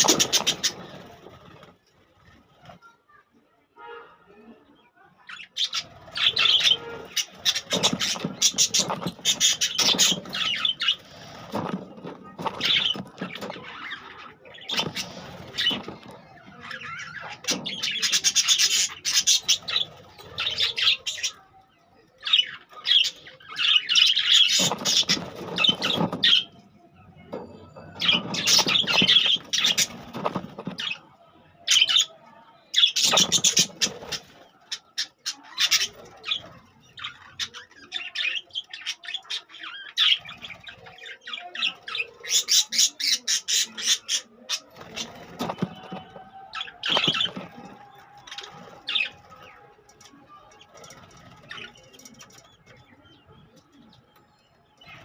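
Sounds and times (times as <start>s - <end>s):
budgerigars chattering and chirping: 0.0s - 1.7s, 5.3s - 32.2s, 32.8s - 54.1s.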